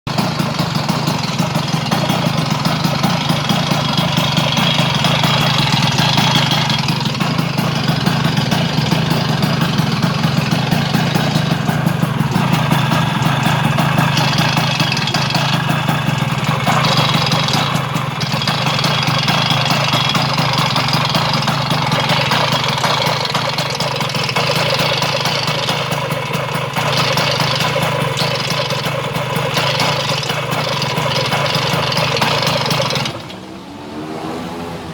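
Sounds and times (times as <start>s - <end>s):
scooter engine idling: 0.0s - 33.9s
flywheel rattle: 0.2s - 33.3s.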